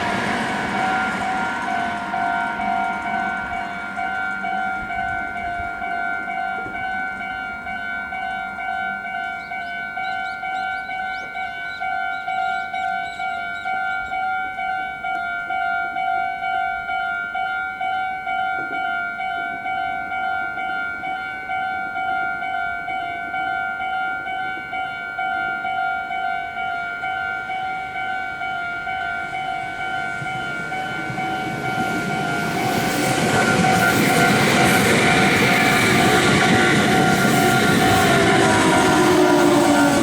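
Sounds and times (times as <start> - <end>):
electric train rumble: 0.0 - 22.7, 23.3 - 40.0.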